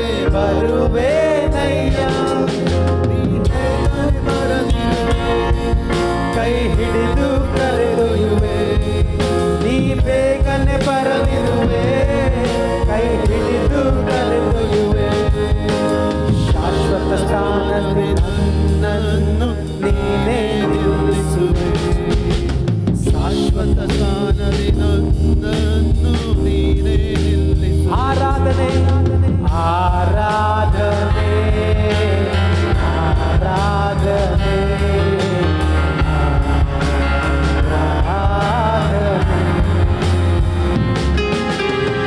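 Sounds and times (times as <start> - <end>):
band with bass and drums: 0.0 - 42.0
person singing: 0.0 - 42.0.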